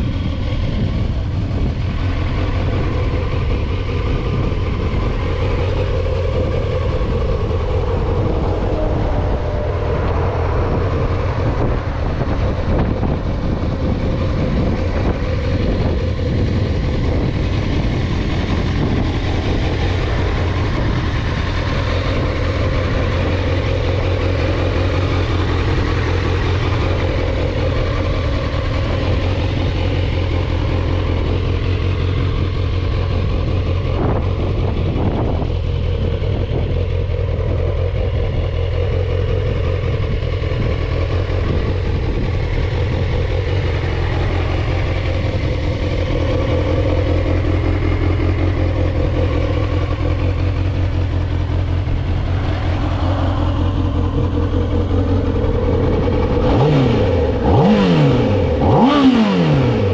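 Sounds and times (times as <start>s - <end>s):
motorcycle engine idling: 0.0s - 59.9s
motorcycle engine revving: 0.0s - 59.9s.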